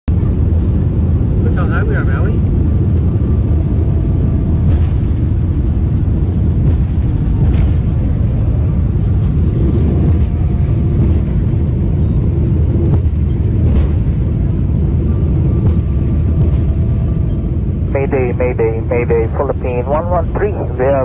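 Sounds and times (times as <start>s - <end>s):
jet airliner cabin rumble: 0.0s - 21.0s.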